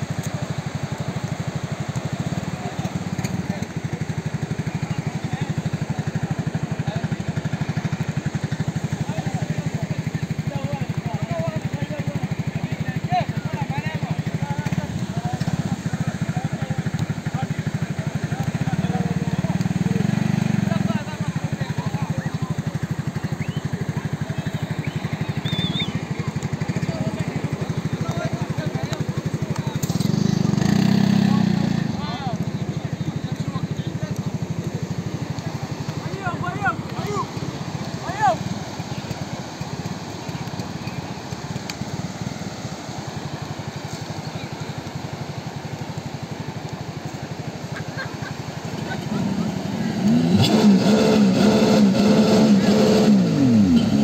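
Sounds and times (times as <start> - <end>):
distant voices: 0.0 - 54.0
quad bike engine idling: 0.0 - 54.0
surf washing: 0.0 - 54.0.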